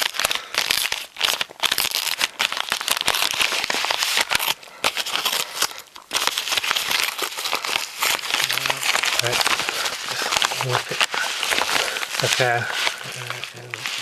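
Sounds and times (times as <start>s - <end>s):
envelope crinkling and rustling: 0.0s - 14.0s.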